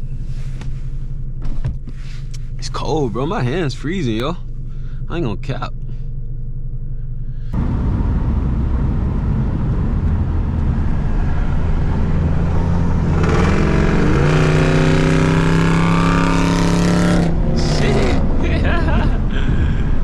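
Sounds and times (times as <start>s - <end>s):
car engine accelerating: 0.0s - 20.0s
road and wind rumble: 0.0s - 20.0s.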